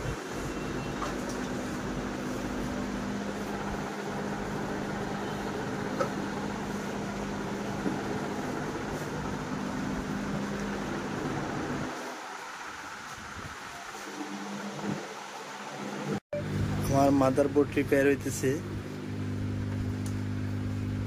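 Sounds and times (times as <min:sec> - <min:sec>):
mechanical whir with hum: 0:00.0 - 0:21.0.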